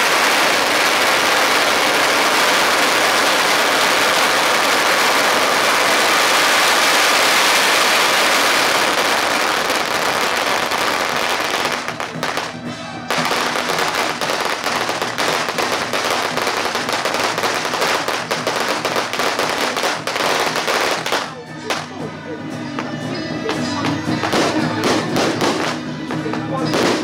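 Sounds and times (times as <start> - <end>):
firecrackers crackling: 0.0 - 22.1, 22.8 - 27.0
music: 0.0 - 27.0.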